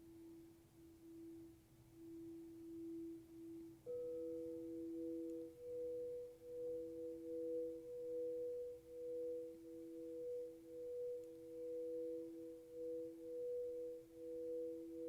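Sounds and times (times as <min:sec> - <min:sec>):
crystal singing bowls ringing: 0:01.0 - 0:15.0.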